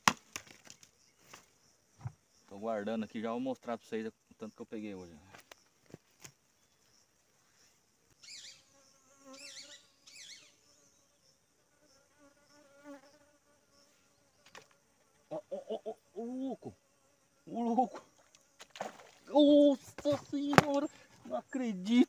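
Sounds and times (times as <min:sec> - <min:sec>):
faint insect buzz: 0:00.0 - 0:22.0.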